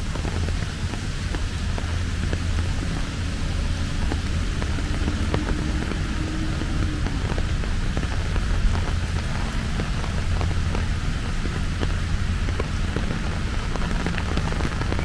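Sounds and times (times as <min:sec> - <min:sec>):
low rumble: 0:00.0 - 0:15.0
raindrop ticks: 0:00.0 - 0:15.0
steady rain hiss: 0:00.0 - 0:15.0.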